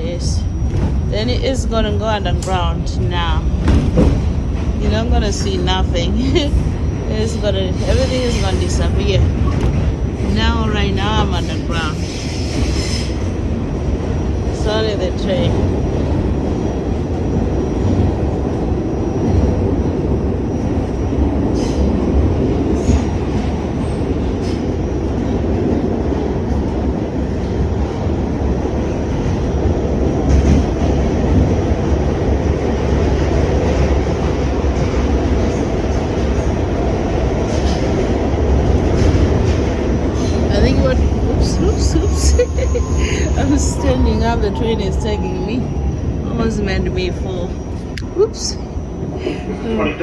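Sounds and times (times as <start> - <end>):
subway train rumbling in tunnel: 0.0 - 50.0.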